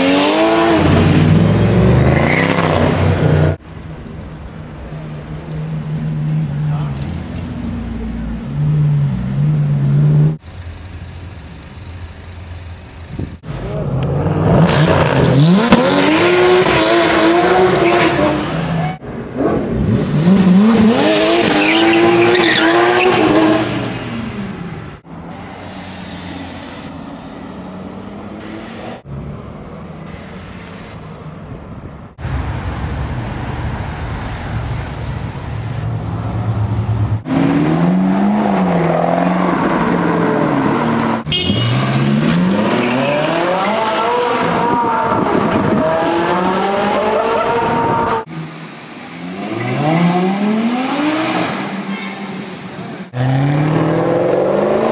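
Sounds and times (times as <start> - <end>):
sports car engines revving: 0.0 - 31.0, 34.8 - 54.9.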